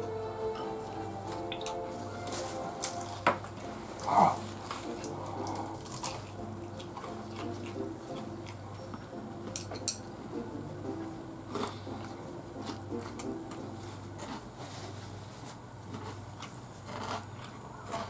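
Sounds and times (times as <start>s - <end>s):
eating sound: 0.0s - 14.6s.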